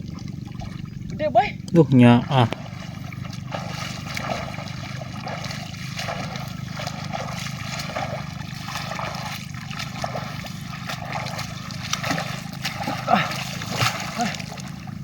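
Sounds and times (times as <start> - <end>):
shallow water sloshing and trickling: 0.0 - 15.0
small water splashes: 0.0 - 15.0.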